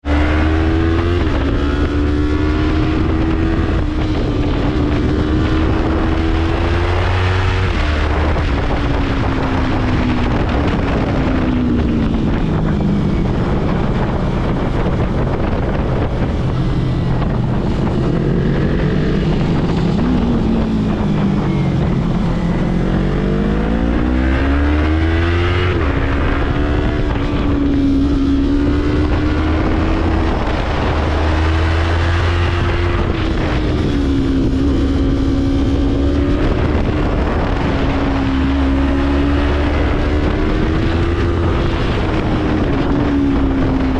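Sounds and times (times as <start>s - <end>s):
motorcycle engine revving: 0.0s - 43.9s
wind rush: 0.0s - 43.9s.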